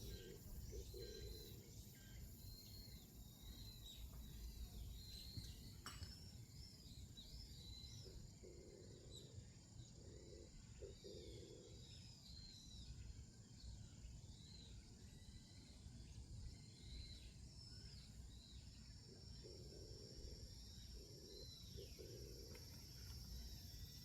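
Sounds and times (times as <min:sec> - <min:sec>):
faint birdsong chirps: 0:00.0 - 0:24.0
high insect whine: 0:00.0 - 0:24.0.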